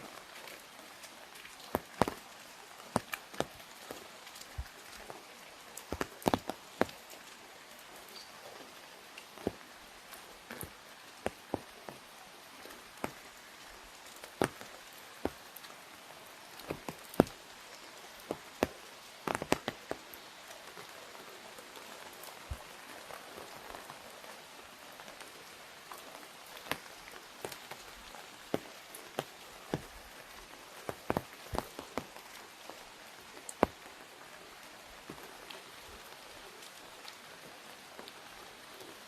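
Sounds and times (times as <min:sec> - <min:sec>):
light rain hissing on umbrella: 0:00.0 - 0:39.0
heavy raindrops tapping: 0:00.1 - 0:24.2, 0:26.4 - 0:35.4.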